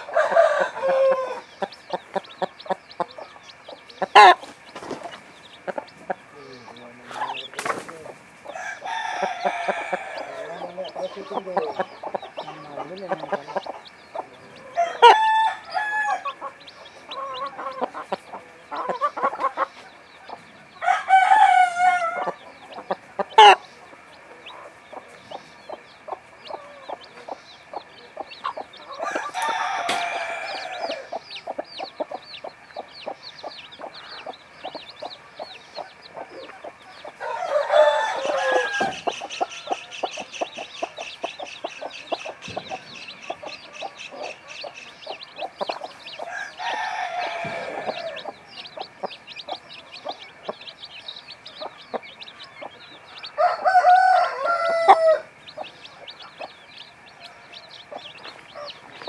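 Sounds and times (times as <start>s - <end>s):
chicks peeping: 0.0s - 59.0s
drawn-out chicken calls: 0.0s - 59.0s
hen clucking: 0.0s - 59.0s.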